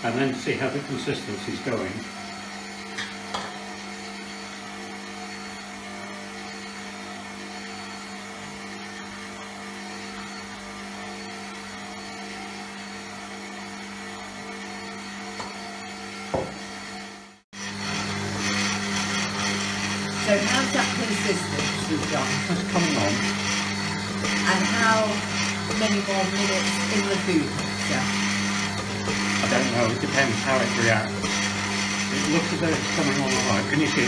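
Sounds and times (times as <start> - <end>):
stand mixer motor humming: 0.0 - 34.0.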